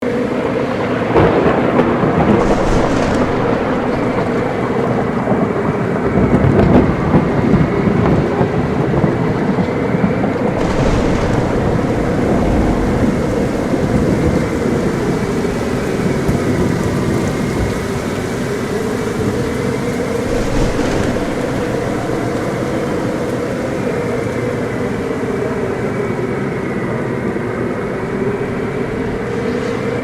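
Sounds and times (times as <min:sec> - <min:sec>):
heavy rain: 0:00.0 - 0:30.0
wind: 0:00.0 - 0:30.0
deep rolling thunder: 0:00.1 - 0:30.0.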